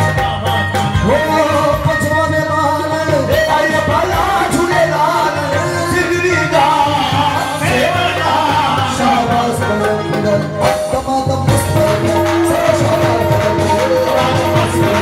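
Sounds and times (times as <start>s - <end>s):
hand drum beat: 0.0s - 15.0s
harmonium: 0.0s - 15.0s
men singing: 0.5s - 15.0s.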